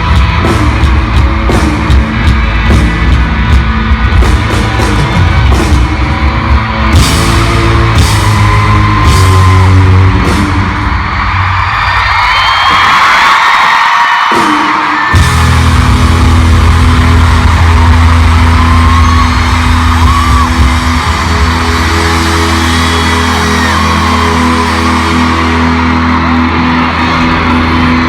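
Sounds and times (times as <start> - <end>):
heavy held bass: 0.0 - 11.7, 15.2 - 28.0
band playing loud: 0.0 - 28.0
fans screaming and yelling: 0.0 - 28.0.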